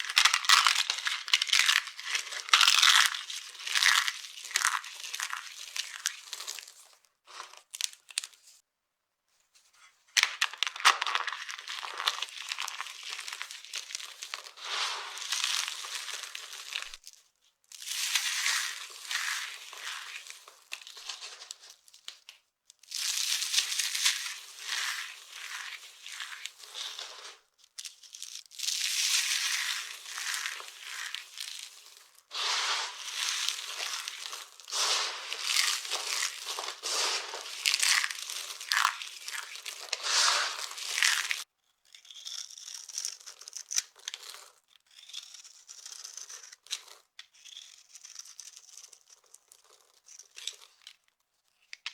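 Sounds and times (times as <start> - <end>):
dry soap crunching: 0.0 - 8.4, 10.2 - 51.0.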